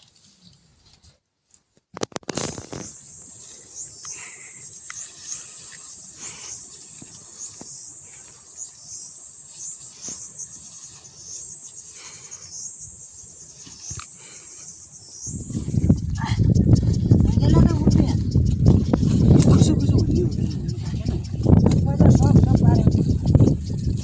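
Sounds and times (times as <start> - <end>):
insect buzzing trill: 2.4 - 24.0.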